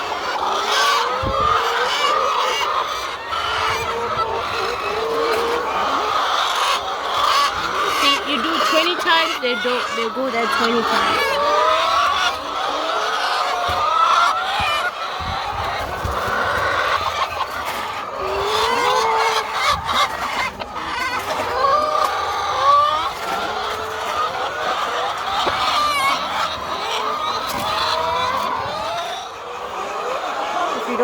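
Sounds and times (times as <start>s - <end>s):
hens clucking and squawking: 0.0s - 31.0s.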